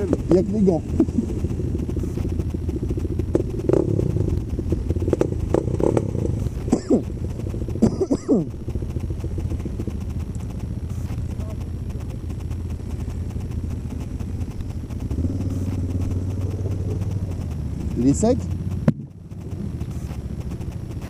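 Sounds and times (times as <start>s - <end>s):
quad bike engines idling: 0.0s - 21.0s.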